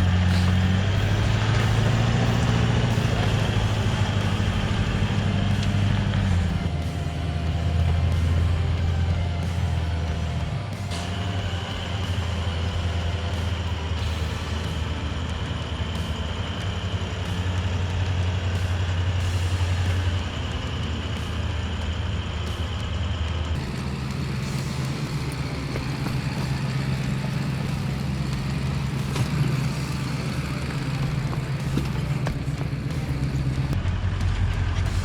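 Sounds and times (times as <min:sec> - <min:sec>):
vehicle engine droning: 0:00.0 - 0:35.0.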